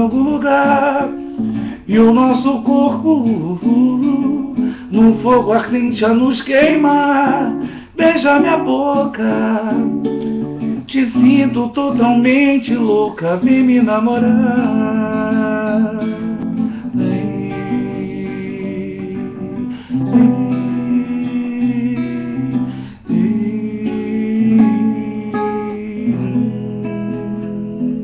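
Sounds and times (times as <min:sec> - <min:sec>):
acoustic guitar strumming chords: 0:00.0 - 0:28.0
person singing: 0:00.0 - 0:28.0.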